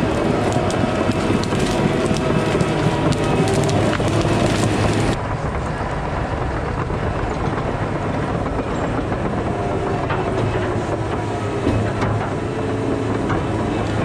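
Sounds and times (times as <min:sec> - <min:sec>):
diesel engine rumble: 0:00.0 - 0:14.0.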